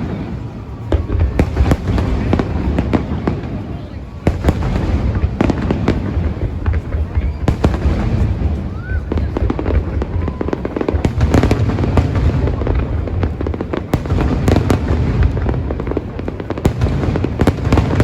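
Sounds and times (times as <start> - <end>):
fireworks booming: 0.0 - 18.0
fireworks cracks: 0.0 - 18.0.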